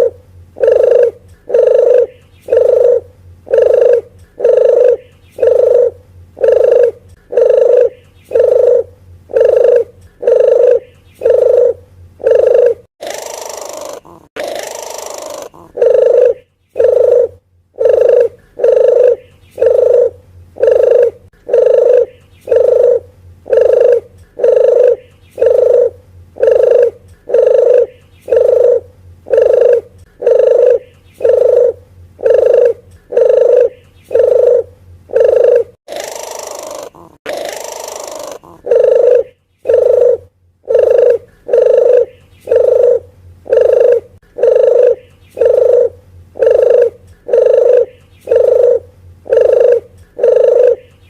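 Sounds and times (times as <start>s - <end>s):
dove lure call coos: 0.0s - 51.0s.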